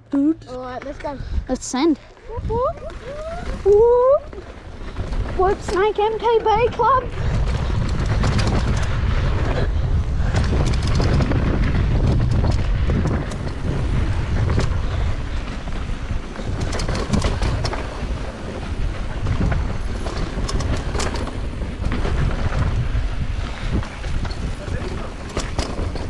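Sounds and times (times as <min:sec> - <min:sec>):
wind buffeting microphone: 0:00.1 - 0:26.0
bike clicking and rattling: 0:00.4 - 0:26.0
bike tyres rolling on dirt: 0:01.9 - 0:26.0.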